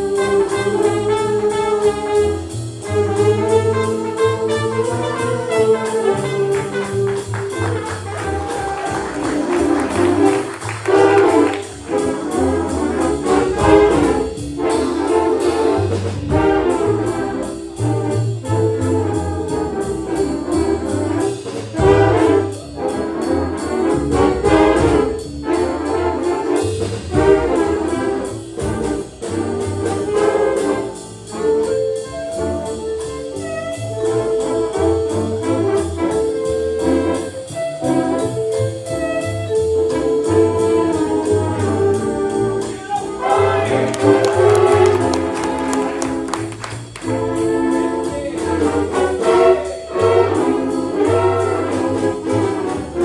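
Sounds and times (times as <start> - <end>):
jazz ensemble playing swing: 0.0 - 53.0.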